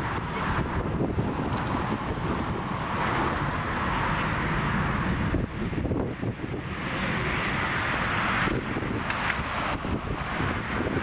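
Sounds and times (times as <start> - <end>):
distant jet engines roaring: 0.0 - 11.0
wind buffeting microphone: 0.0 - 11.0.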